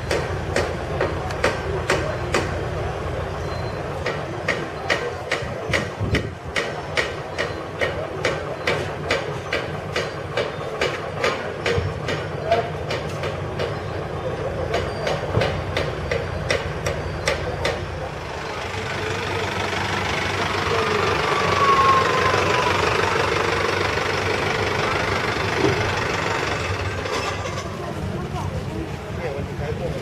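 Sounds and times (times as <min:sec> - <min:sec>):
broad rush of noise: 0:00.0 - 0:30.0
engine running: 0:00.0 - 0:30.0.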